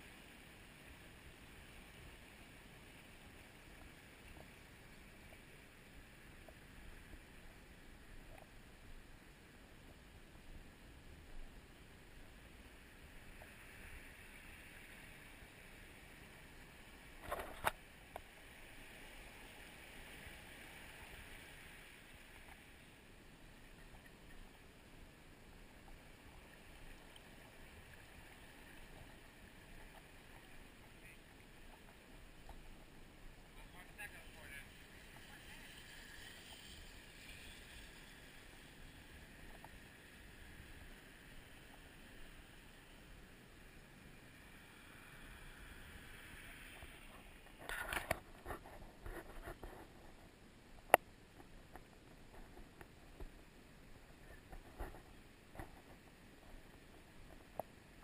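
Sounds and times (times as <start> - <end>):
faint hiss: 0.0 - 58.0.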